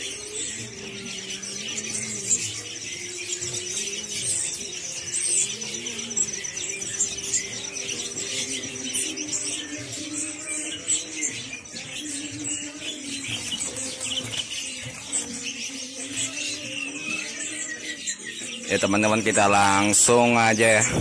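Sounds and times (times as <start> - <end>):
music playing: 0.0 - 21.0
songbirds chirping: 0.0 - 21.0.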